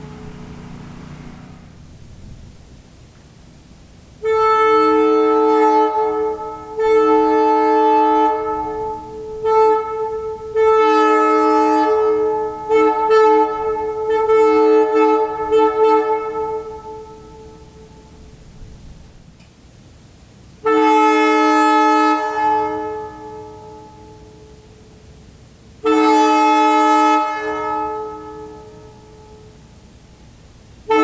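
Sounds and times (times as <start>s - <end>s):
locomotive air horn blasts: 0.0s - 2.8s, 3.4s - 19.2s, 20.6s - 25.0s, 25.8s - 31.0s.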